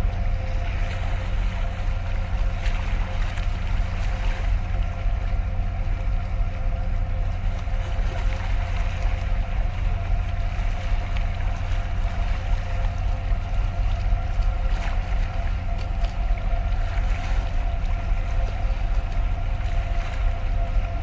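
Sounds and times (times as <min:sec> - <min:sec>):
faint steady whine: 0:00.0 - 0:21.0
ship engines droning: 0:00.0 - 0:21.0.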